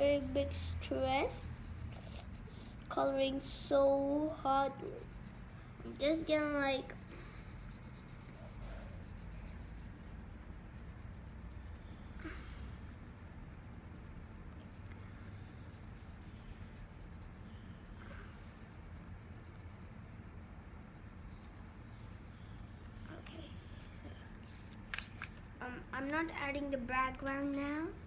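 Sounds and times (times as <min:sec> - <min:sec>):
pencil scratching on paper: 0:00.0 - 0:12.2, 0:12.8 - 0:20.0, 0:20.9 - 0:25.1
steady low hum: 0:00.0 - 0:28.0.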